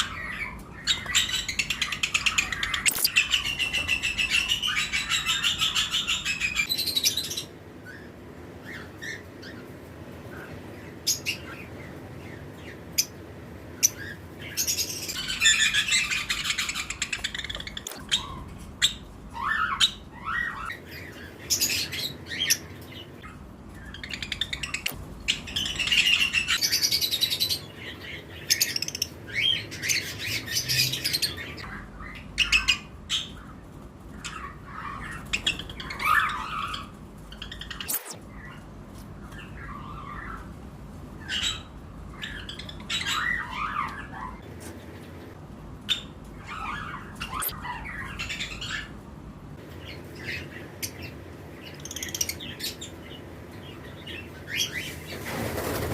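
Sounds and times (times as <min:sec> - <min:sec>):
lovebirds chirping and squawking: 0:00.0 - 0:55.9.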